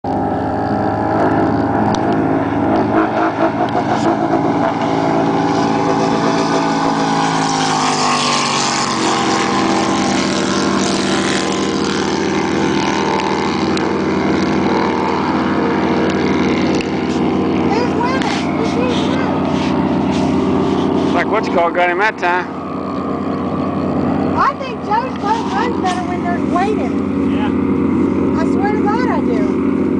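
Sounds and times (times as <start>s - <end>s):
rushing wind and water: 0.0s - 29.9s
speedboat engine running hard: 0.0s - 29.9s.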